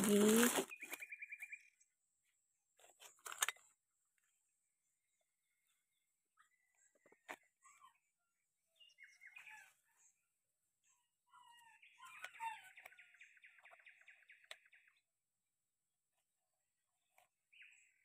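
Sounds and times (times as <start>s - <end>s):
faint birdsong: 0.4s - 18.0s.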